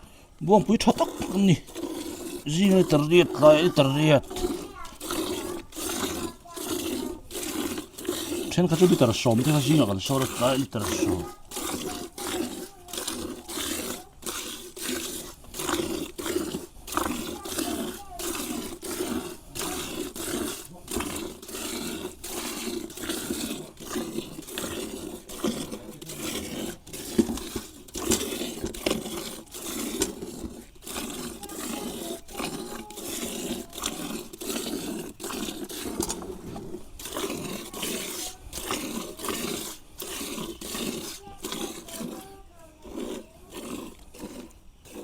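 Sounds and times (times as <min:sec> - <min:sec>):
milk squirting into a pail: 0:00.0 - 0:45.0.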